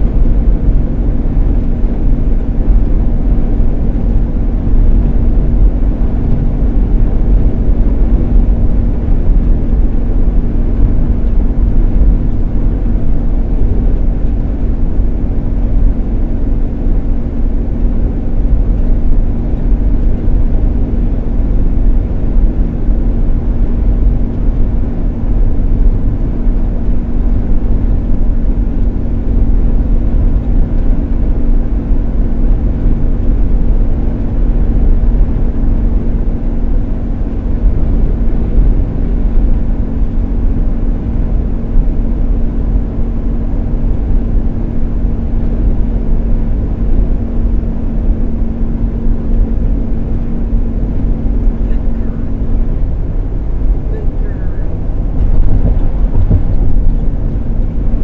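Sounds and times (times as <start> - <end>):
van engine and road noise: 0.0 - 58.0.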